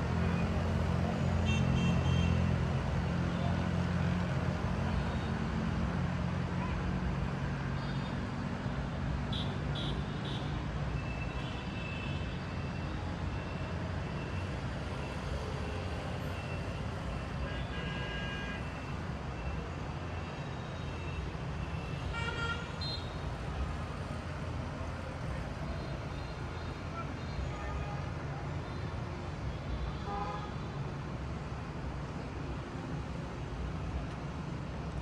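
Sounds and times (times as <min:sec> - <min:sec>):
city street traffic rumble: 0:00.0 - 0:35.0.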